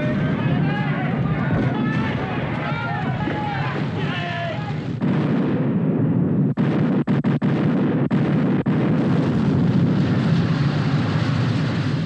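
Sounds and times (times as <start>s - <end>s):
cannon fire and explosion rumble: 0.0s - 12.0s.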